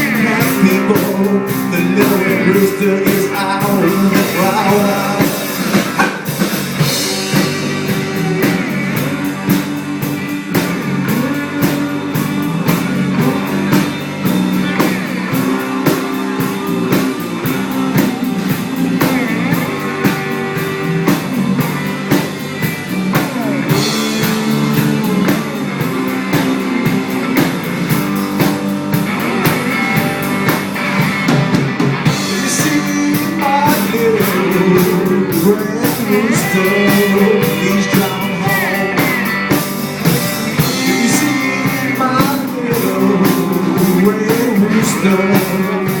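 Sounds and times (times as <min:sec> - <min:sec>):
blues rock guitar: 0:00.0 - 0:46.0
drum kit steady beat: 0:00.0 - 0:46.0.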